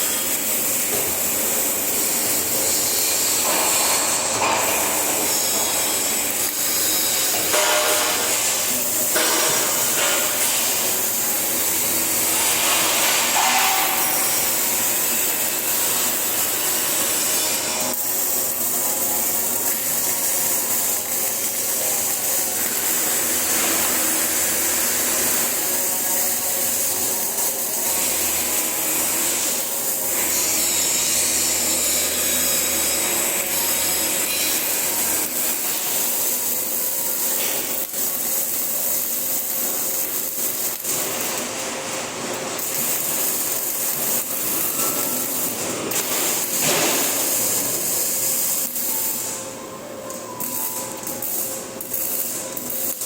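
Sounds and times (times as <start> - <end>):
welding arc crackling and hissing: 0.0 - 53.0.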